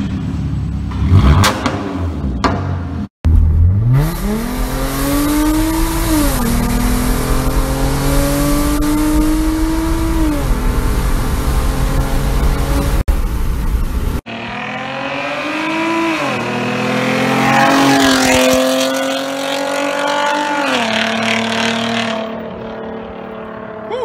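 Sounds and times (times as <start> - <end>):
car accelerating with gear changes: 3.3 - 13.0, 14.3 - 24.0.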